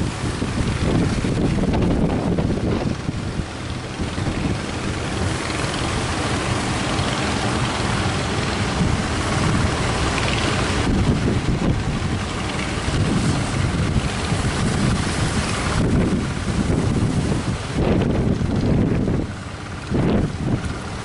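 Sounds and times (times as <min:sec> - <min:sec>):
boat engine running: 0:00.0 - 0:21.0
wind buffeting microphone: 0:00.0 - 0:21.0.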